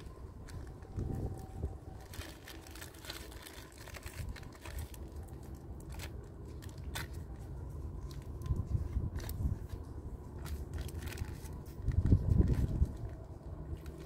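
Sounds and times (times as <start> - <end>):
low rumble: 0.0 - 14.0
plastic bag crinkling: 0.0 - 14.0.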